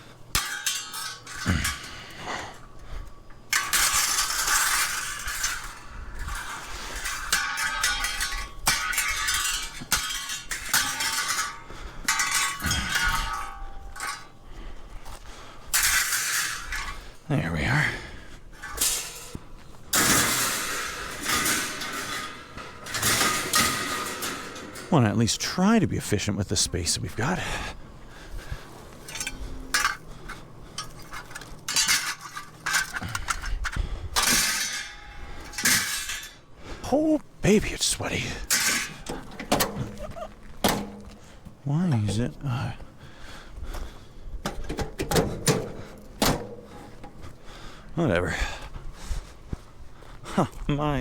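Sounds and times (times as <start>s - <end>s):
scrap steel clanking: 0.0s - 25.0s, 27.2s - 49.7s.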